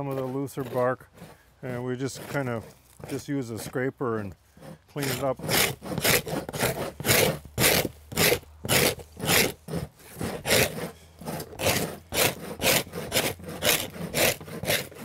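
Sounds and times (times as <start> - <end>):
scrapers rasping over bark: 0.0 - 15.0.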